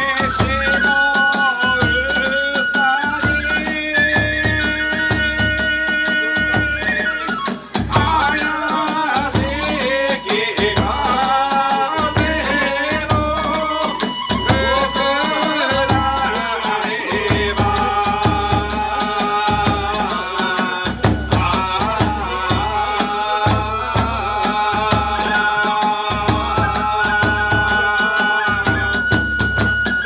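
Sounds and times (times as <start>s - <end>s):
bamboo flute melody: 0.0s - 30.0s
large drum beats: 0.0s - 30.0s.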